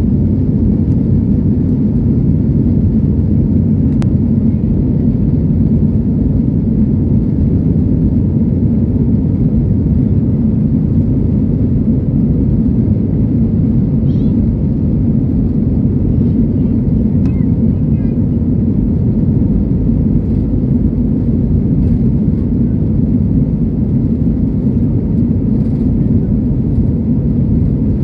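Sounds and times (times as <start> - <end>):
airplane cabin rumble: 0.0 - 28.0.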